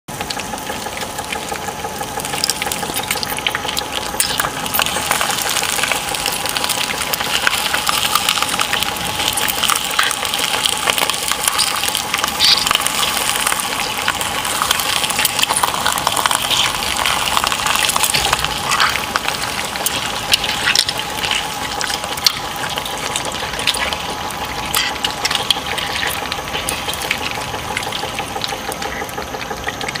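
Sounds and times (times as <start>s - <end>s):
blades crushing and crunching: 0.2s - 30.0s.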